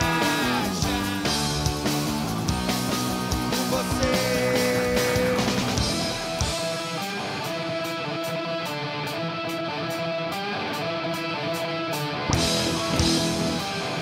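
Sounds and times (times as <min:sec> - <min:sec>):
bass guitar: 0:00.0 - 0:14.0
drums: 0:00.0 - 0:14.0
electric guitar strumming chords: 0:00.0 - 0:14.0.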